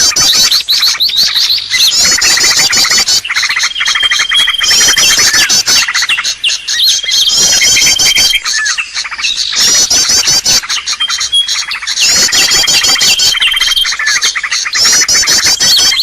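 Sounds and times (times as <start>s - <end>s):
birdsong chirps and trills: 0.0s - 16.0s
thin bird whistle: 0.0s - 16.0s.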